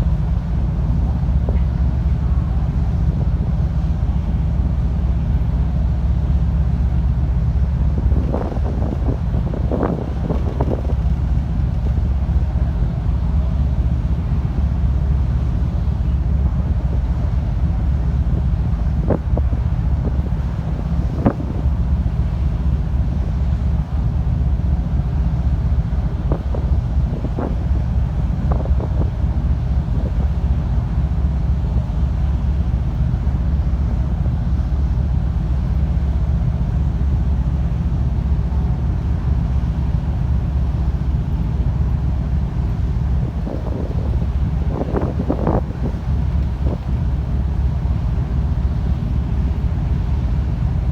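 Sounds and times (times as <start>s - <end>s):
ship engines rumbling: 0.0s - 50.9s
wind noise on microphone: 0.0s - 50.9s.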